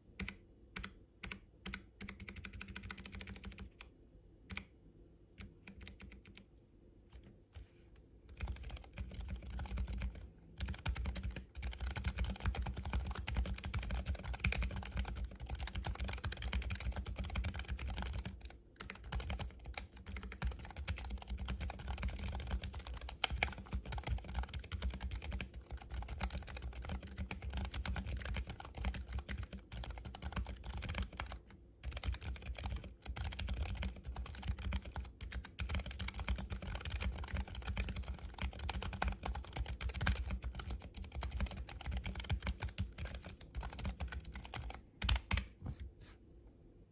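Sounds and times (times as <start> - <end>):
fast keyboard typing: 0.2 - 3.9, 5.4 - 6.5, 8.3 - 45.6.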